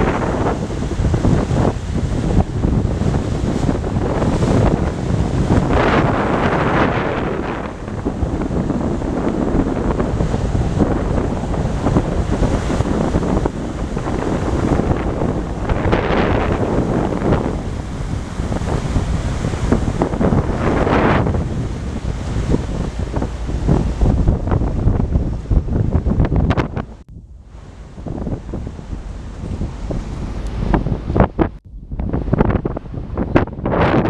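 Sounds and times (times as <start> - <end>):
sea waves rushing: 0.0 - 34.0
wind buffeting microphone: 0.0 - 34.0.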